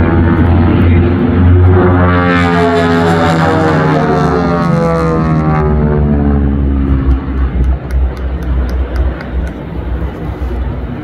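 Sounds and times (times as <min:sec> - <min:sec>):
propeller plane engines droning past: 0:00.0 - 0:11.0.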